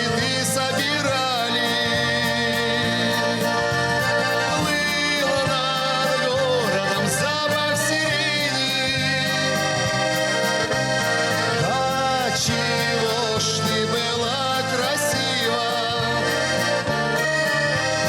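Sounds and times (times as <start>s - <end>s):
accordion melody: 0.0s - 18.0s
steady beat: 0.0s - 18.0s.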